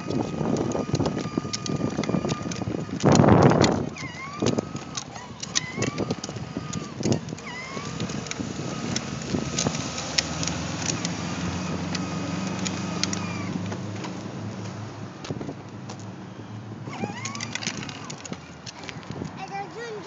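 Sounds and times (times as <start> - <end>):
toy electric motor whining: 0.0 - 13.8, 16.3 - 20.0
plastic wheels clicking over grit: 0.0 - 14.3, 16.8 - 20.0.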